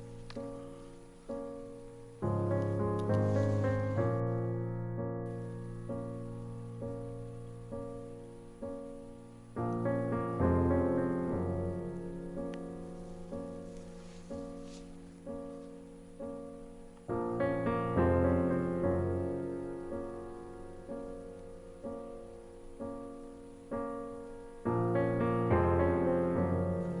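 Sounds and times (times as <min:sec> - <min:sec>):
slow piano music: 0:00.0 - 0:27.0.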